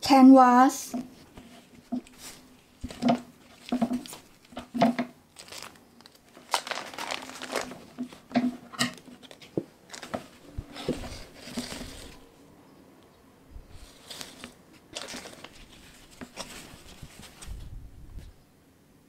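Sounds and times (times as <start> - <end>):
canvas rustling and crinkling: 0.9 - 12.2, 13.7 - 17.8.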